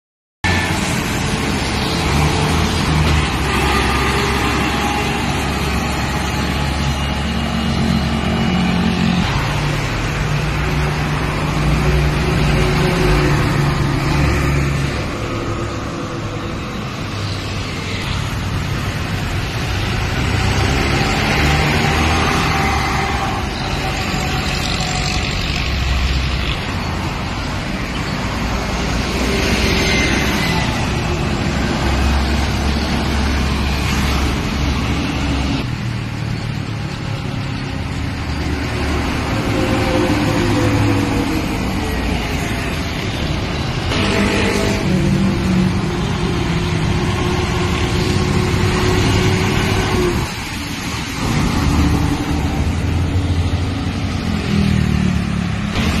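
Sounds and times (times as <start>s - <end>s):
diesel truck engines: 0.4s - 56.0s
tyre and road noise: 0.4s - 56.0s.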